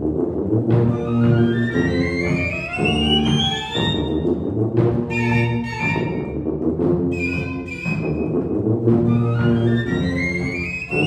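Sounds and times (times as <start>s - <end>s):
flute and violin melody: 0.7s - 6.5s, 7.1s - 11.0s.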